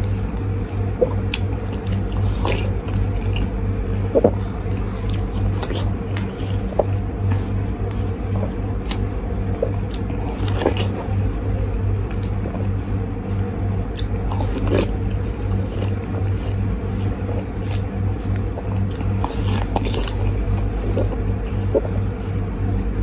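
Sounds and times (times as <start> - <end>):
chewing watermelon: 0.0 - 23.0
steady low hum: 0.0 - 23.0.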